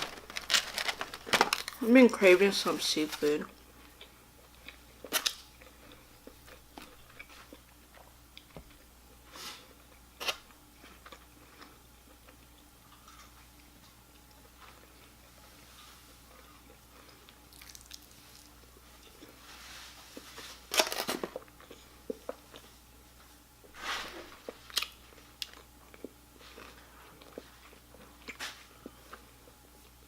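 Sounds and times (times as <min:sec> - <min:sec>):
chewing crunchy fried food: 0:00.0 - 0:02.0, 0:03.5 - 0:30.0.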